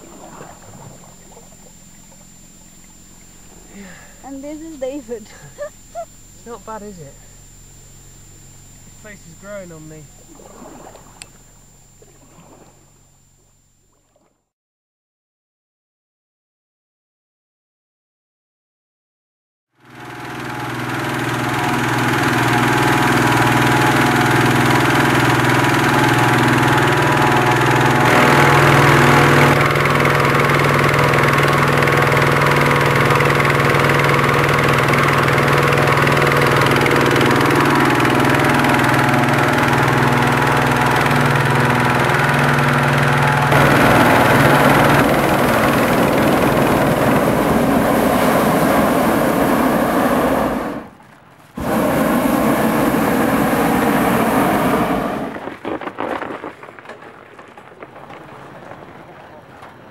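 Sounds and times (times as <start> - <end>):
propane burner roaring: 0.0 - 12.8, 19.8 - 55.7
small gasoline engine running: 0.0 - 13.7, 19.7 - 57.1.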